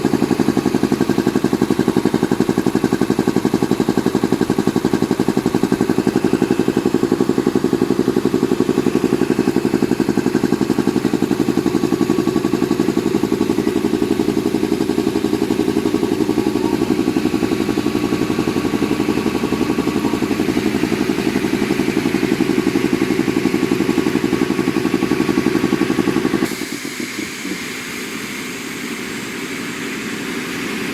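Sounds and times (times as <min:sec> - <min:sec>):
air compressor pulsing: 0:00.0 - 0:30.9.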